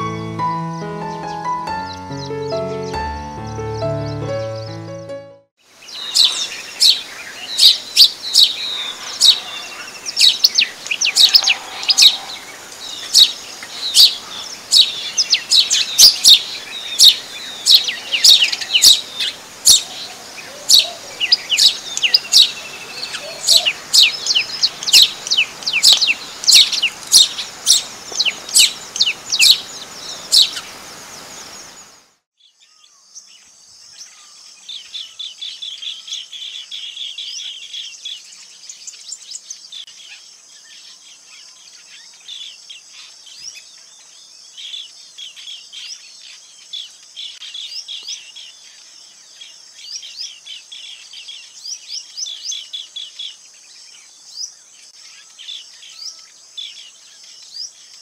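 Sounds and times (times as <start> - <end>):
songbird chirping: 0.0 - 58.0.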